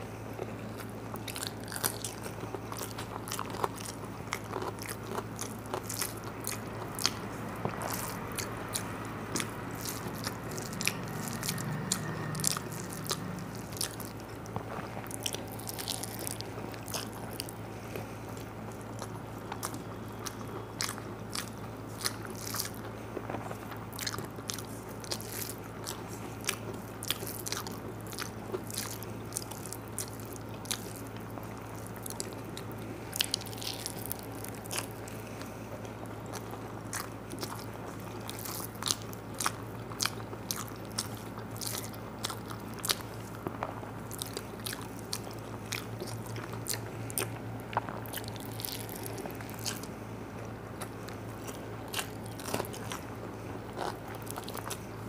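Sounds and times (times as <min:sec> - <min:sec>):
chewing and crunching: 0:00.0 - 0:55.0
steady low hum: 0:00.0 - 0:55.0.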